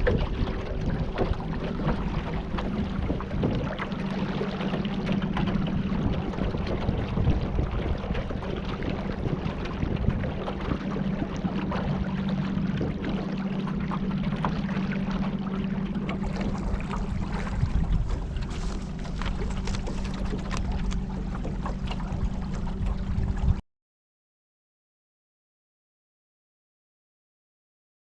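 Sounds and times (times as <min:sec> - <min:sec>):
boat motor hum: 0:00.0 - 0:23.6
water splashing against hull: 0:00.0 - 0:23.6.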